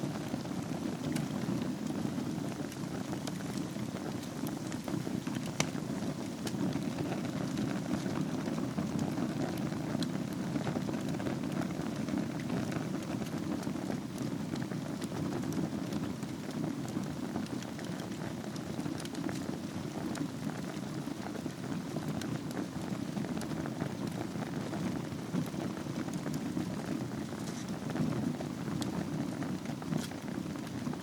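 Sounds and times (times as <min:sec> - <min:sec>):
fire crackles and pops: 0:00.0 - 0:31.0
low rush of flame: 0:00.0 - 0:31.0.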